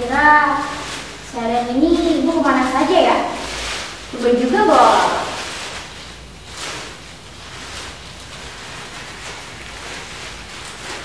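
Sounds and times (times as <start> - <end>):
faint rustles: 0.0 - 11.0
room noise hiss: 0.0 - 11.0.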